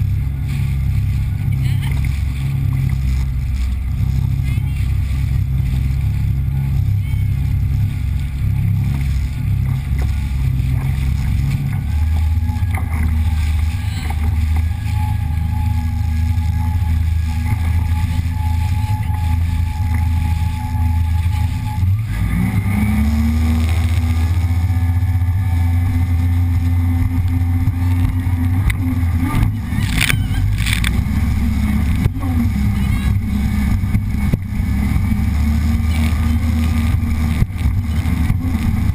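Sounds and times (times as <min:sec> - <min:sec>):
personal watercraft engine revving: 0:00.0 - 0:38.9.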